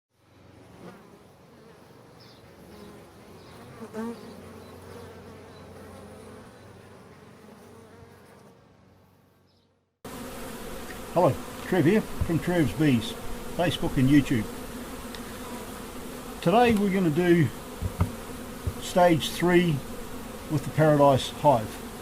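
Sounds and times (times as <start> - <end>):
honeybees buzzing: 0.2 - 22.0.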